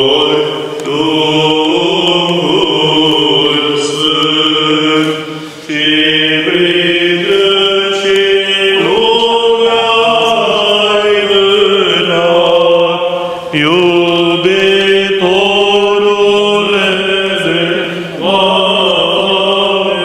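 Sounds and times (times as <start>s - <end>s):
voices chanting long notes: 0.0s - 20.0s.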